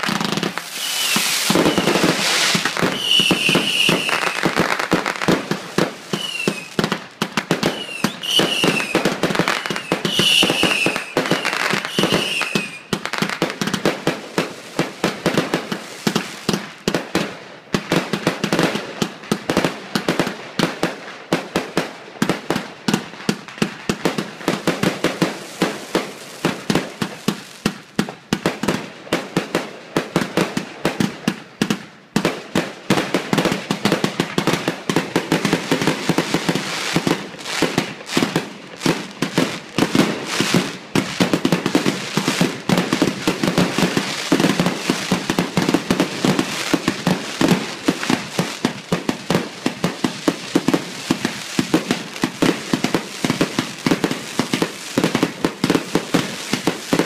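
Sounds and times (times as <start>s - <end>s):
fireworks bangs: 0.0s - 57.0s
fireworks crackling: 0.0s - 57.0s.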